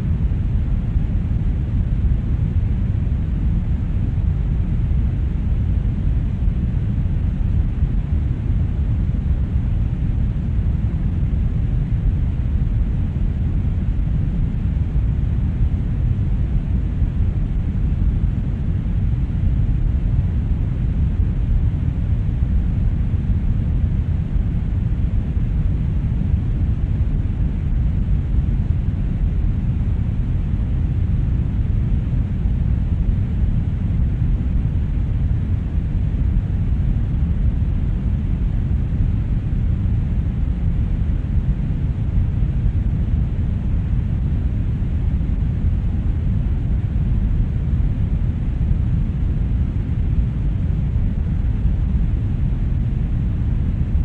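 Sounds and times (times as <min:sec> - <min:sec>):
brown noise rumbling hiss: 0:00.0 - 0:54.0.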